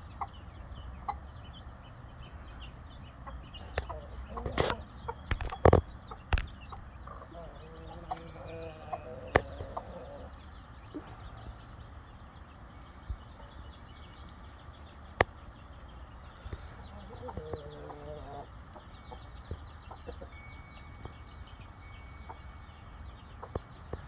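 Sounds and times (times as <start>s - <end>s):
chickens clucking: 0.0s - 24.0s
chicks peeping: 0.0s - 24.0s.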